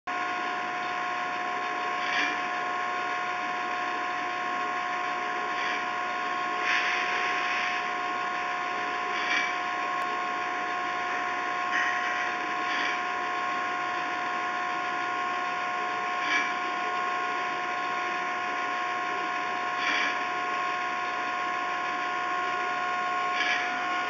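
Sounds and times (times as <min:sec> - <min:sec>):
machine mechanical whine: 0:00.1 - 0:24.0.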